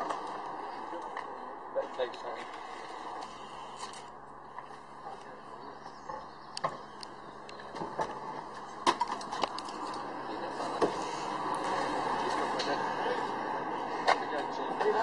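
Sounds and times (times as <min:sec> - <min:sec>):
street background noise: 0:00.0 - 0:15.0.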